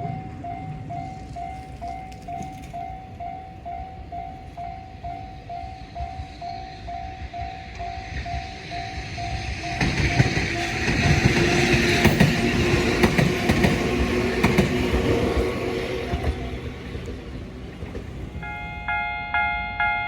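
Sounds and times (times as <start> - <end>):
level crossing warning bell: 0.0 - 16.8, 18.4 - 20.0
train running noise: 0.0 - 20.0.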